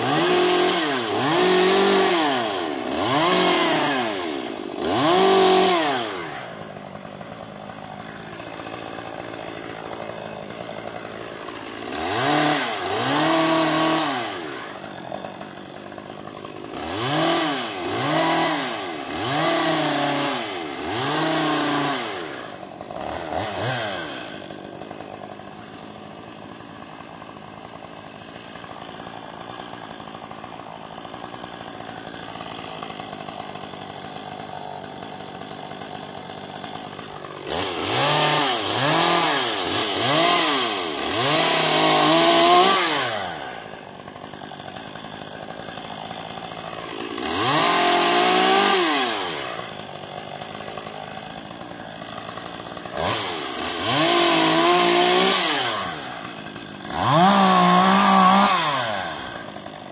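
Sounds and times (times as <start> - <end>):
chainsaw idling and revving: 0.0 - 59.9.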